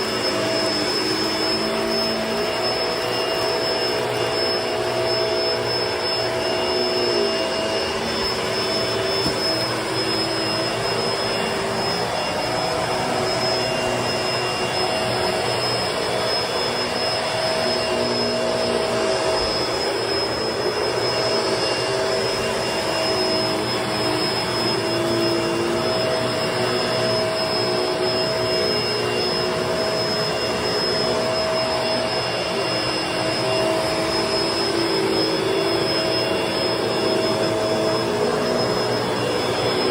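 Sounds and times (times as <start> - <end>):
vacuum cleaner on carpet: 0.0 - 39.9.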